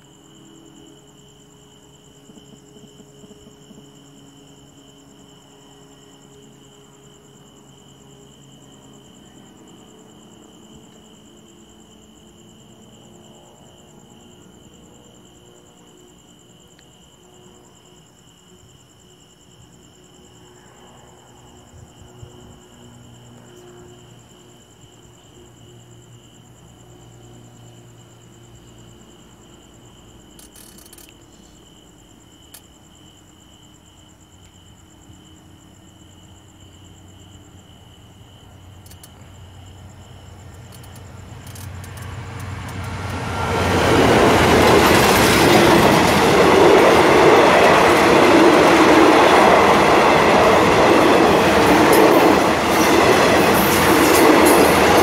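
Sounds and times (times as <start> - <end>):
crickets chirping: 0.0 - 55.0
faint diesel train hum: 0.0 - 55.0.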